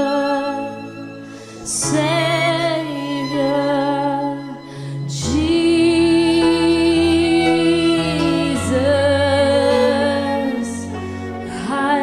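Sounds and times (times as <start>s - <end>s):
woman singing sustained notes: 0.0s - 12.0s.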